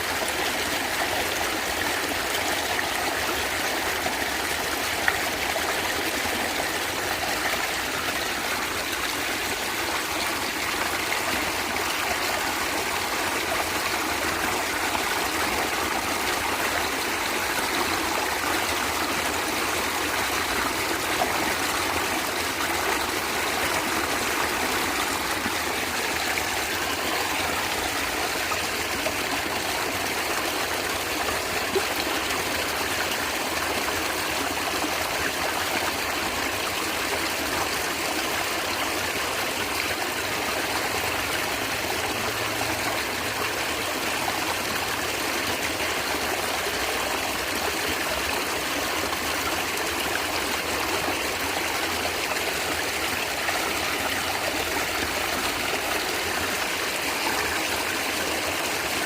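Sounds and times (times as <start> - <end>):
stream running and gurgling: 0.0 - 59.0.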